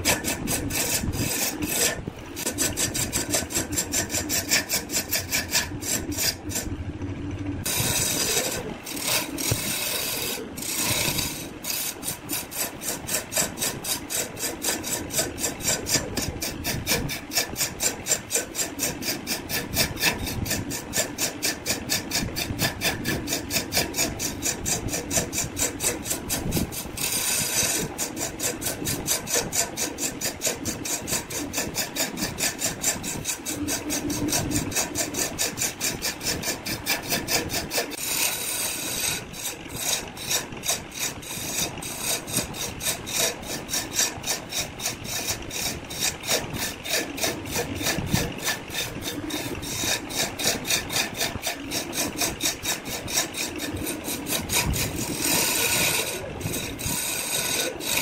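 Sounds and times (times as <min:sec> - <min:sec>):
lathe tool scraping wood: 0:00.0 - 0:06.8, 0:07.5 - 0:58.0.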